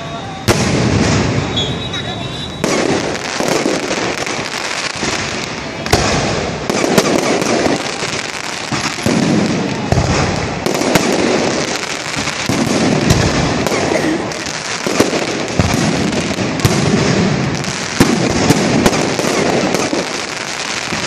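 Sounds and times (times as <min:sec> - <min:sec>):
fireworks hissing and crackling: 0:00.0 - 0:21.0
firework pops and bangs: 0:00.4 - 0:01.9, 0:02.6 - 0:21.0.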